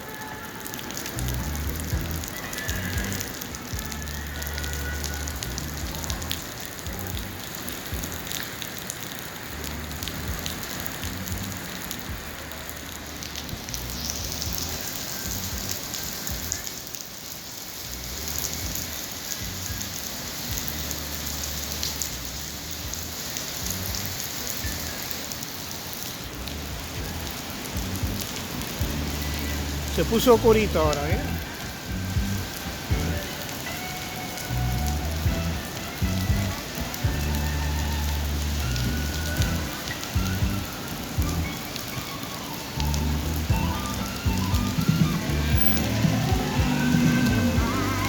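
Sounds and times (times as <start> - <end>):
heavy rain on a street: 0.0 - 48.0.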